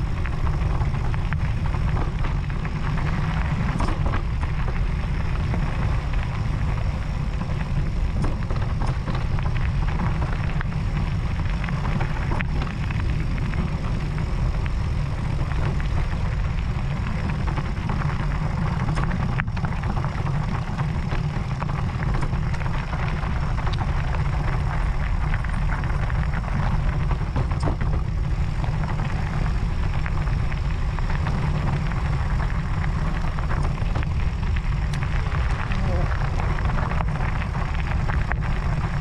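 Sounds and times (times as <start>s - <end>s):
tyres crunching over gravel: 0.0s - 39.0s
wind buffeting microphone: 0.0s - 39.0s.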